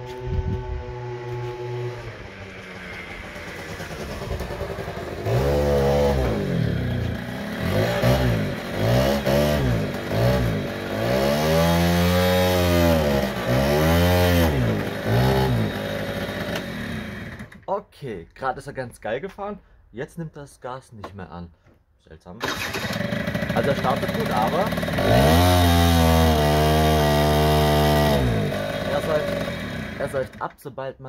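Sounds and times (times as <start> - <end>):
scooter engine revving: 0.0 - 17.7, 22.4 - 30.5.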